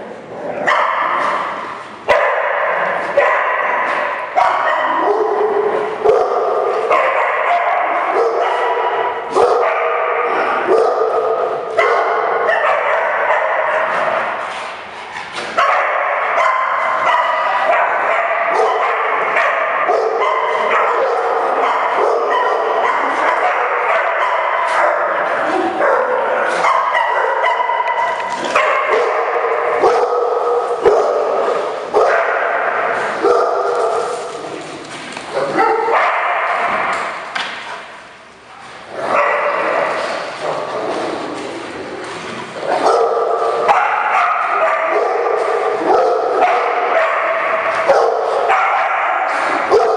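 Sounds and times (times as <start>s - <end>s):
dogs barking and yipping: 0.6s - 34.6s, 35.3s - 37.6s, 39.0s - 49.9s.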